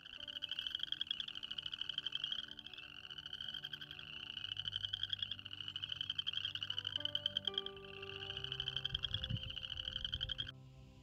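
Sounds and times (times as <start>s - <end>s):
frogs trilling: 0.0s - 10.6s.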